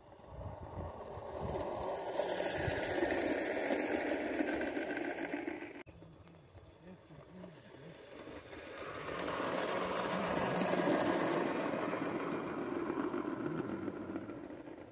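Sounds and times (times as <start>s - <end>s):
steam locomotive passing: 0.0s - 14.9s
train wheels on track: 0.0s - 14.9s.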